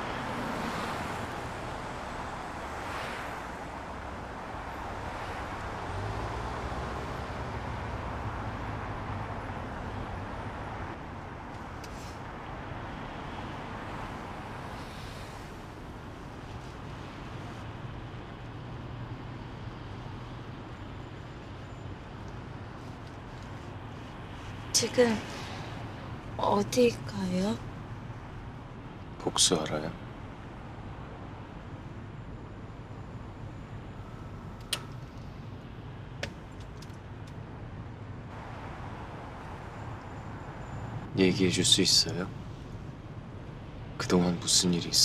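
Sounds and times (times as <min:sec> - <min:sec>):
car road and engine drone: 0:00.0 - 0:45.0.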